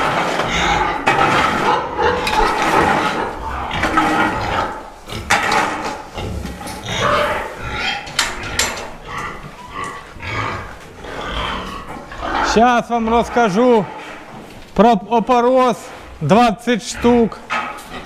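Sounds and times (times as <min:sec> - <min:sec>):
pigs squealing and grunting: 0:00.0 - 0:14.4, 0:15.8 - 0:18.0.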